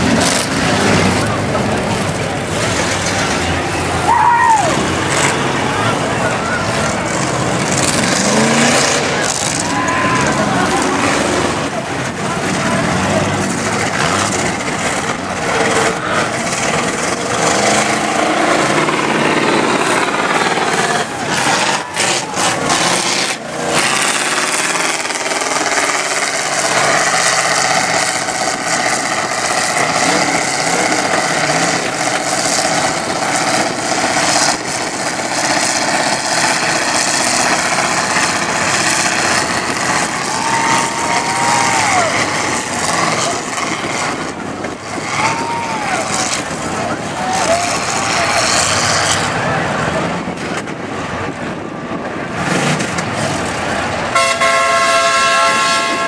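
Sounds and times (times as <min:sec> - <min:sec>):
loud rushing noise: 0:00.0 - 0:56.0
truck engines revving hard: 0:00.0 - 0:56.0.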